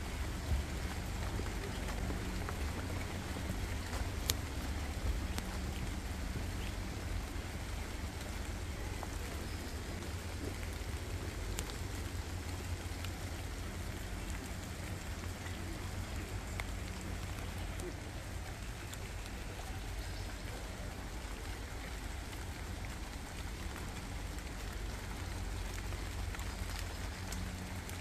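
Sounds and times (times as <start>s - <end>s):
sharp drips landing: 0.0s - 28.0s
steady rain: 0.0s - 28.0s.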